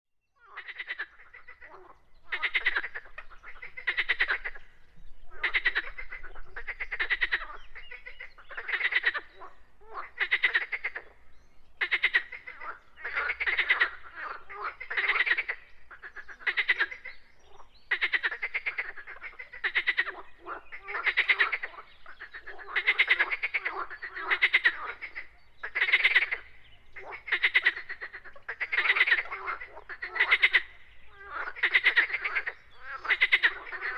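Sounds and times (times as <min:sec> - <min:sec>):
frogs calling: 0:00.4 - 0:33.9.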